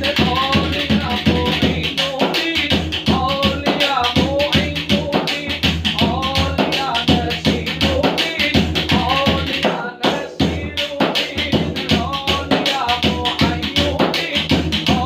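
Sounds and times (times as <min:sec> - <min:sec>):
frame drum playing: 0:00.0 - 0:15.0.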